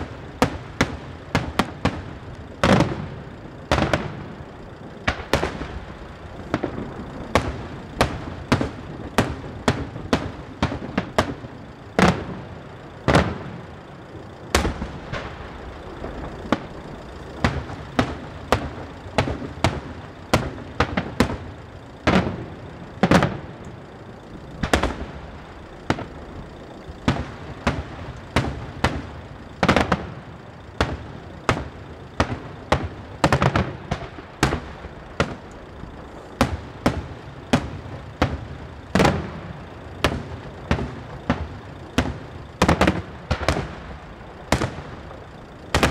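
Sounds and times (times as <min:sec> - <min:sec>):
fireworks shells bursting: 0:00.0 - 0:45.9.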